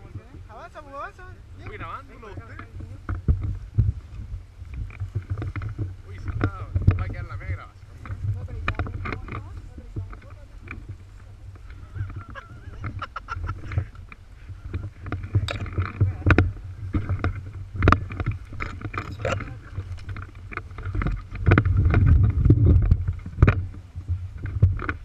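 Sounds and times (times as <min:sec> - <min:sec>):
wind rumbling on microphone: 0:00.0 - 0:25.0
microphone handling knocks: 0:01.6 - 0:25.0.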